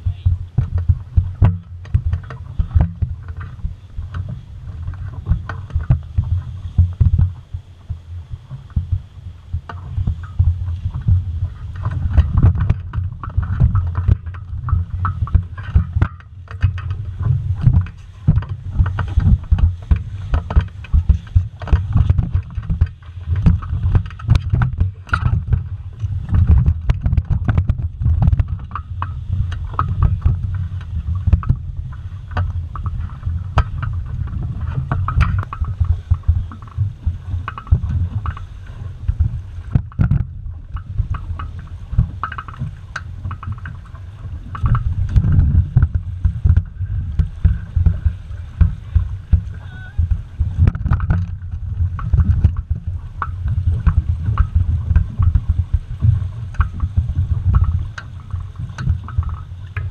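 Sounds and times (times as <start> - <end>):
water splashing against hull: 0.0 - 59.9
wind buffeting microphone: 0.0 - 59.9
sharp knocks and clicks: 0.3 - 7.4, 9.6 - 59.9.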